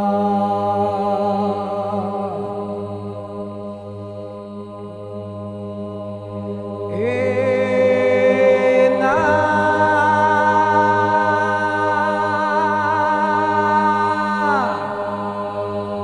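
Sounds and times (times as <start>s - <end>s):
choir chanting a cappella: 0.0s - 16.0s
low vocal drone: 0.0s - 16.0s.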